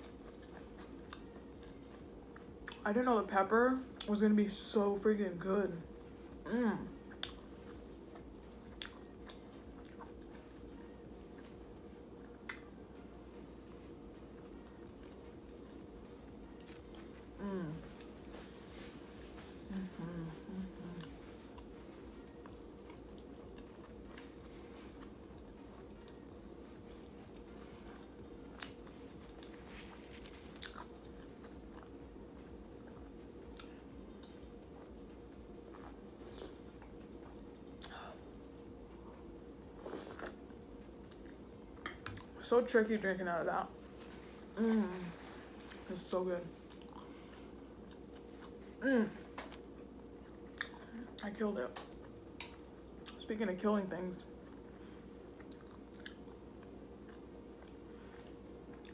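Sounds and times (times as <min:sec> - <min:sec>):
person chewing food: 0:00.0 - 0:02.8, 0:07.0 - 0:13.0, 0:13.7 - 0:42.4, 0:46.6 - 0:51.2, 0:51.8 - 0:53.2, 0:54.3 - 0:58.9
faint steady hum: 0:00.0 - 0:58.9.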